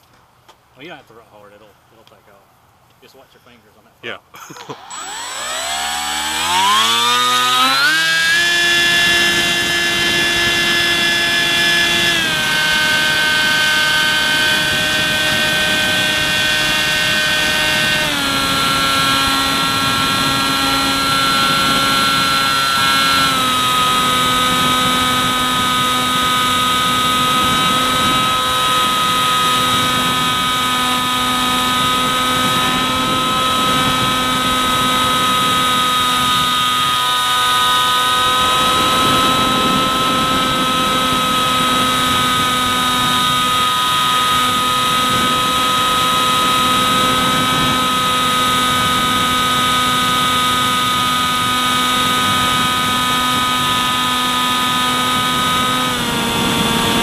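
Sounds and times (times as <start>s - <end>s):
electric motor and propeller whine: 4.4s - 57.0s
wind rushing on microphone: 5.0s - 37.2s, 37.8s - 57.0s.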